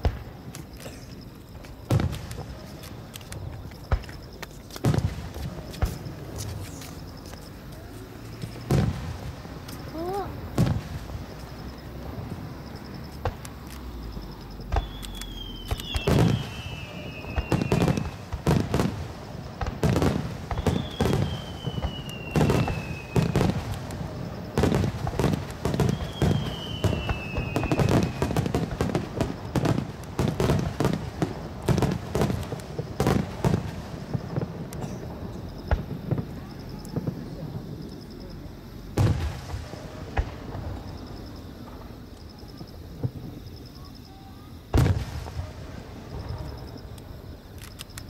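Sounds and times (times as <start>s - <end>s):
falling firework whistles: 0.0s - 37.9s, 38.9s - 47.0s
fireworks booming: 0.0s - 47.6s.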